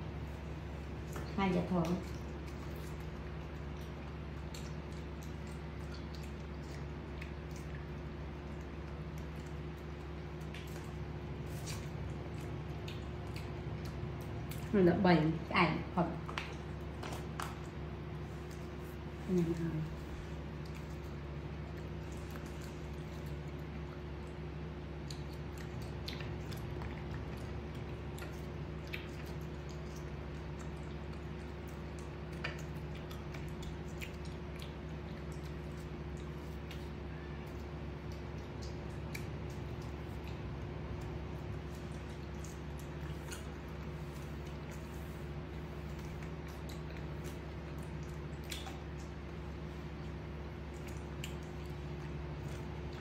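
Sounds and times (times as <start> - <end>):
steady low hum: 0.0 - 53.0
monkey chewing with wet smacks: 0.1 - 15.5, 16.2 - 53.0.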